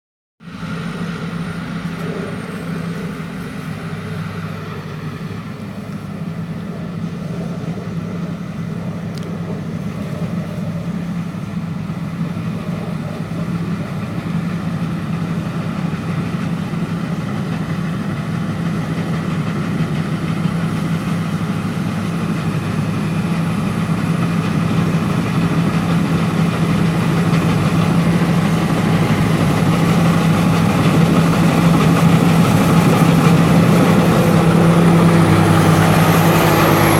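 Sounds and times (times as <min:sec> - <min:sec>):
combine harvester engine running: 0:00.4 - 0:36.9.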